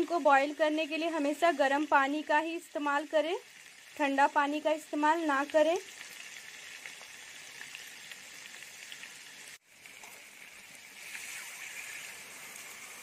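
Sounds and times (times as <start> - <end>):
hissing sizzle of water in pan: 0.0 - 13.0
meat sizzling in a pan: 0.0 - 13.0.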